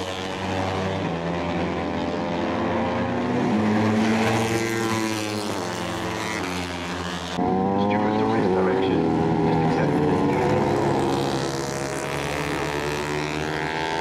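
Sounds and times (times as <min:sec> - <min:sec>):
motorcycle engines revving hard: 0:00.0 - 0:14.0.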